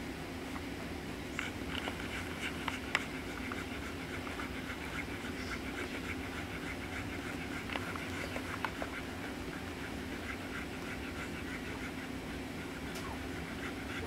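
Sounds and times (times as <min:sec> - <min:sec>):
low steady hum: 0:00.0 - 0:14.0
puppies suckling: 0:01.3 - 0:14.0.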